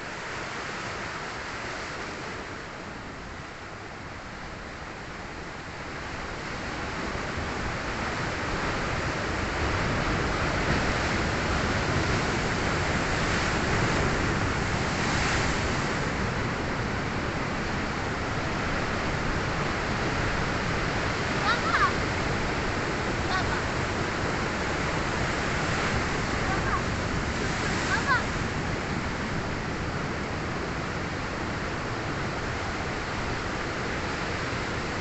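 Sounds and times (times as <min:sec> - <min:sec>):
wind on microphone: 0:00.0 - 0:35.0
waves breaking against rocks: 0:06.5 - 0:35.0.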